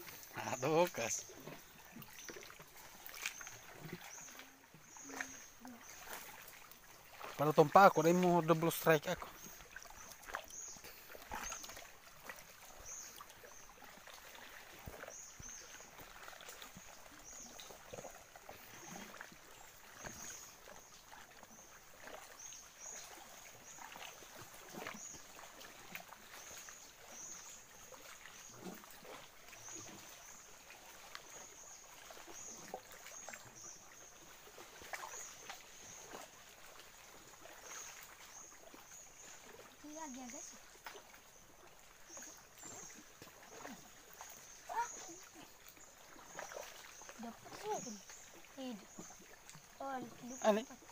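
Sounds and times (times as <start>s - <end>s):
light water splashes: 0.0s - 50.9s.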